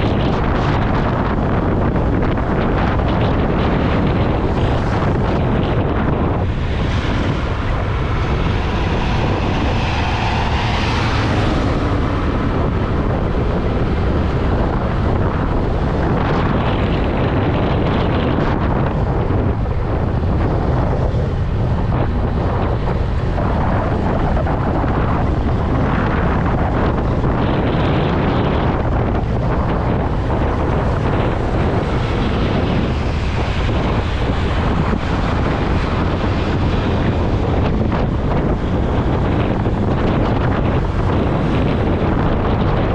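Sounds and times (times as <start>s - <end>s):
road noise: 0.0s - 42.9s
wind buffeting microphone: 0.0s - 42.9s.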